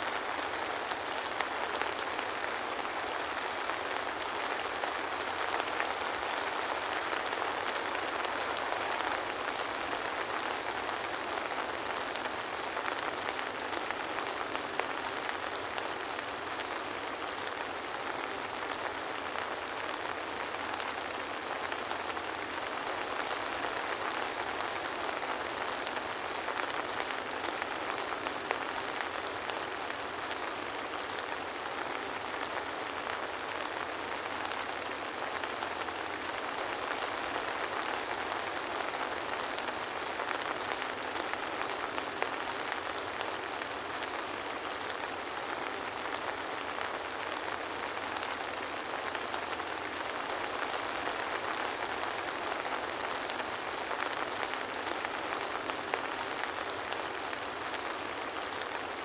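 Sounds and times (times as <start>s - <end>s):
soft rain pattering: 0.0s - 59.0s.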